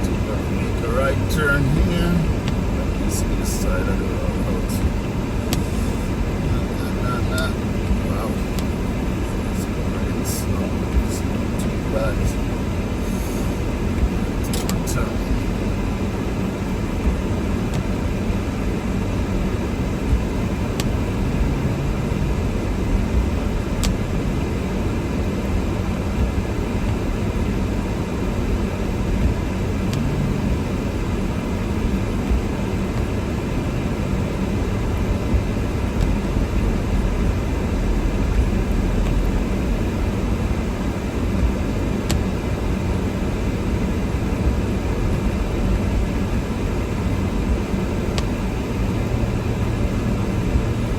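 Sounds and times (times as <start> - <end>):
car engine and tyre noise: 0.0 - 50.9.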